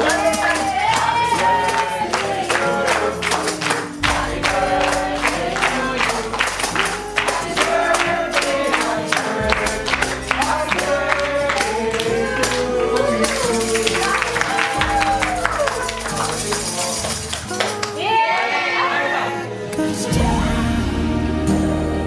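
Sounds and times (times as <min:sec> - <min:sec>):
instrumental music with steady beat: 0:00.0 - 0:18.2.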